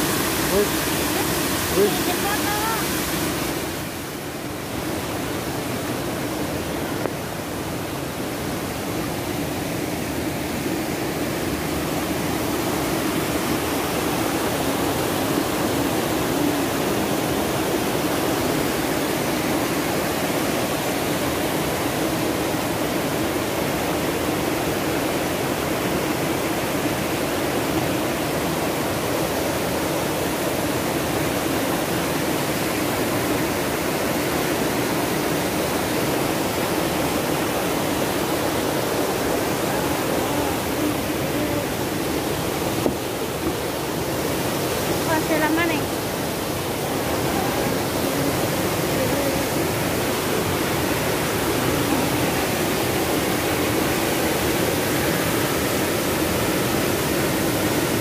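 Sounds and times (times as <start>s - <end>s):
mountain stream rushing over rocks: 0.0s - 58.0s.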